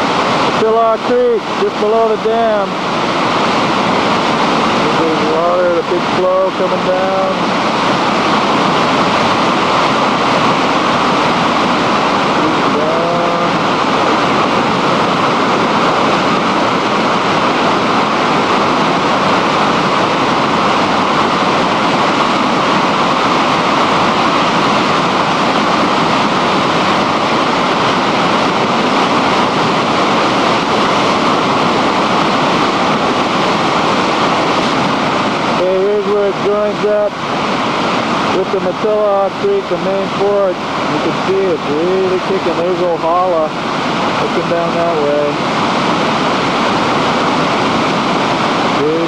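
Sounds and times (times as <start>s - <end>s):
floodwater rushing: 0.0s - 49.0s.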